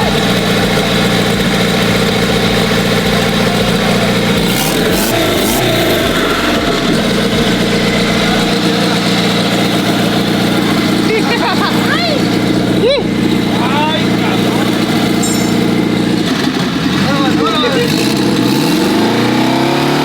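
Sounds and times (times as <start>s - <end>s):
motor running steadily: 0.0s - 20.0s.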